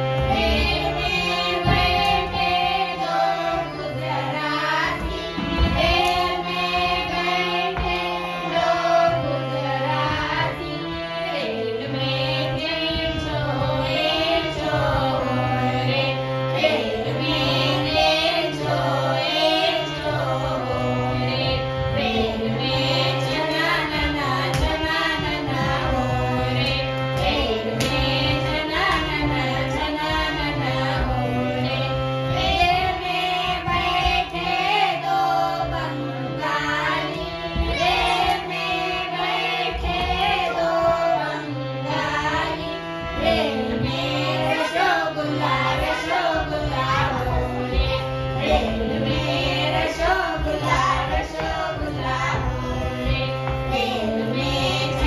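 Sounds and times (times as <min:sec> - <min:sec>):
children's song singing: 0:00.0 - 0:55.0.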